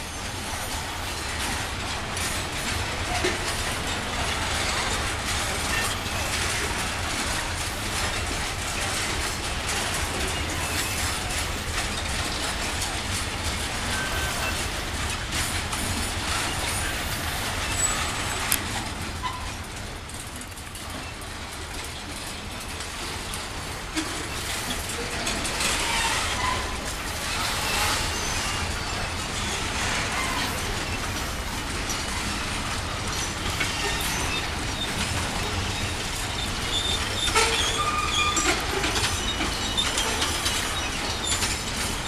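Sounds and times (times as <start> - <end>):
freight train wheels clattering: 0.0 - 42.0.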